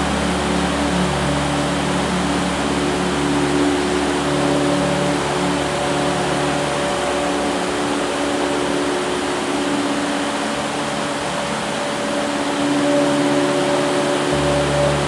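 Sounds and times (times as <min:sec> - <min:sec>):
faint low tones: 0:00.0 - 0:15.0
heavy rain on a metal roof: 0:00.0 - 0:15.0.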